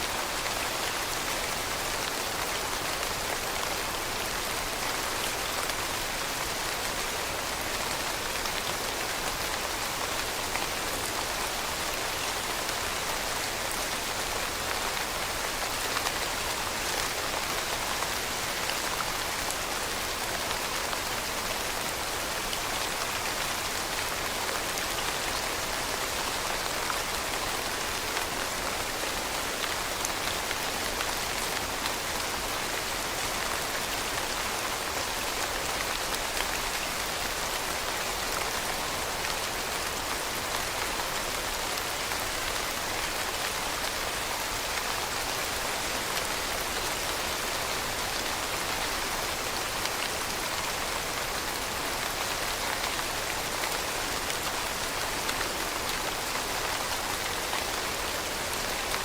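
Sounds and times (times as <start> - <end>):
rain falling on hard surface: 0.0 - 59.0.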